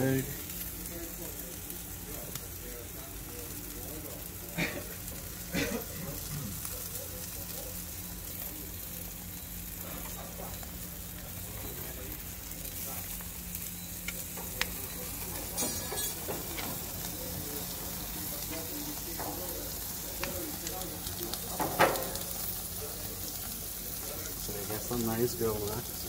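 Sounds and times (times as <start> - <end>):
steaks sizzling on grill: 0.0 - 26.0.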